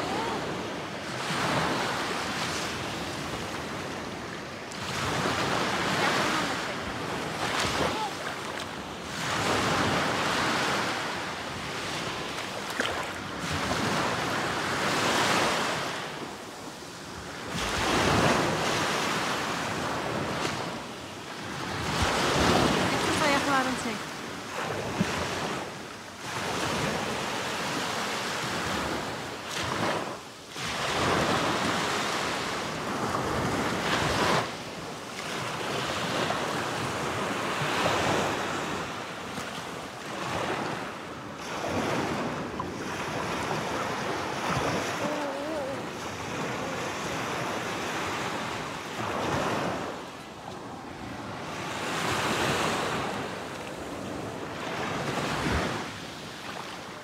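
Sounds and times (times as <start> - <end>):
waves washing on beach: 0.0 - 57.0.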